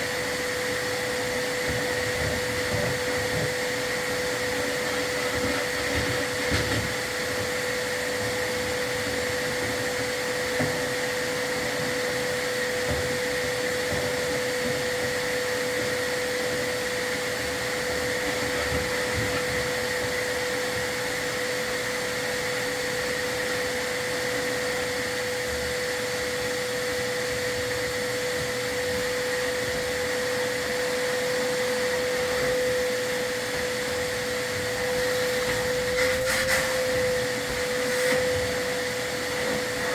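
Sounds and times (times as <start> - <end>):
vacuum whining: 0.0 - 39.9.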